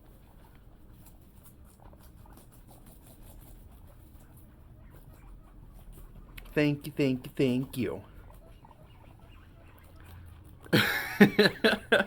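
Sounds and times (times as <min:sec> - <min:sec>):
guinea pigs chewing celery: 0:00.0 - 0:12.0.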